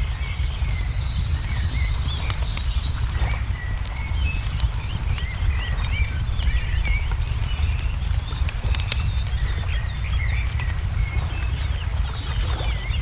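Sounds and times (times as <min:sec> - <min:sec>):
low rumble: 0:00.0 - 0:13.0
small birds chirping: 0:00.0 - 0:13.0
wood fire crackling: 0:00.0 - 0:13.0.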